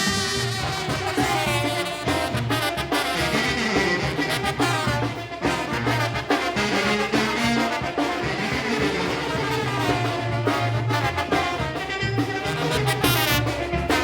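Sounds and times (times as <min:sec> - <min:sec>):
steady drum beat: 0:00.0 - 0:14.0
trumpets and trombones: 0:00.0 - 0:14.0
tuba bass line: 0:00.0 - 0:14.0.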